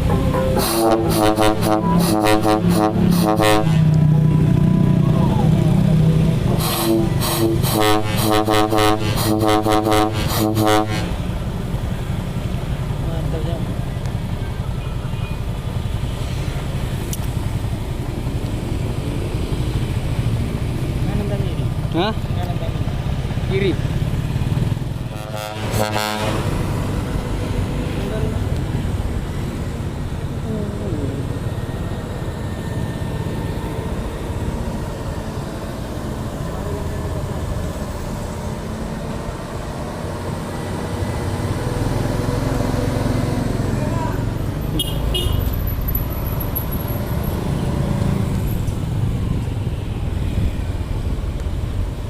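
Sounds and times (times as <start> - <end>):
road noise: 0.0 - 52.0
truck diesel engine rumbling: 0.0 - 52.0.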